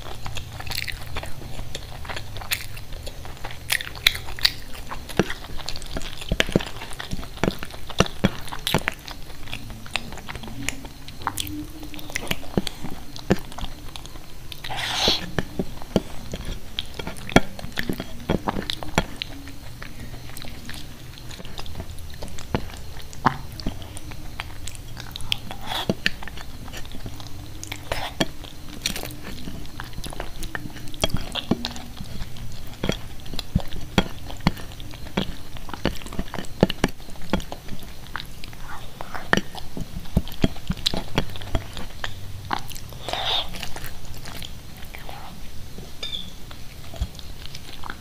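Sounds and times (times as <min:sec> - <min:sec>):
wet chewing and lip smacks: 0:00.0 - 0:48.0.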